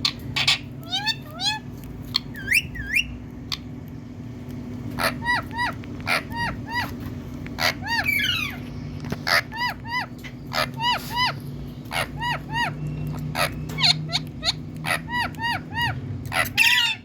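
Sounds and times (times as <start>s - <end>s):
parrot calling and screeching: 0.0s - 3.6s, 4.9s - 17.0s
steady low hum: 0.0s - 17.0s.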